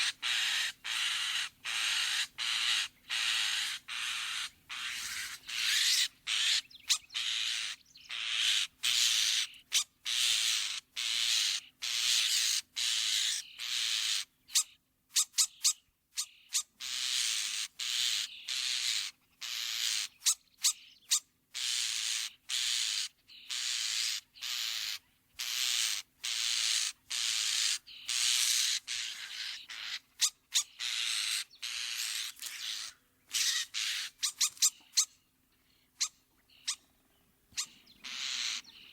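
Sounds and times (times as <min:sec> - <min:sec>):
bird harsh rasping calls: 0:00.0 - 0:38.9.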